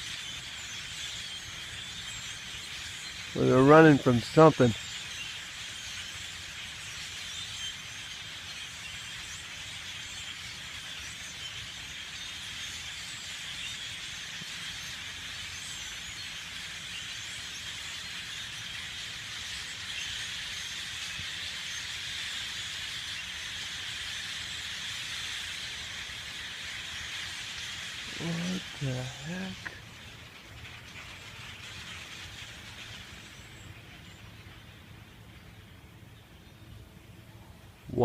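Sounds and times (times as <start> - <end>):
flock of birds chattering: 0.0 - 38.0.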